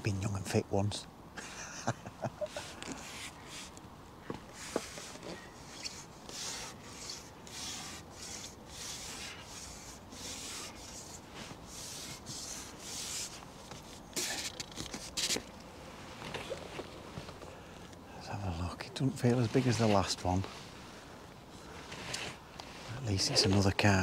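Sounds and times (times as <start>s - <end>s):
hissy rubbing and scraping: 2.4s - 17.9s, 19.2s - 24.0s.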